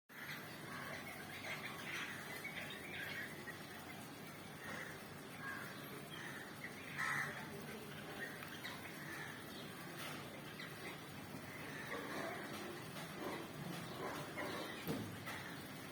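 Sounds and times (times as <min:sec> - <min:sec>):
birds calling and chirping: 0:00.1 - 0:15.9.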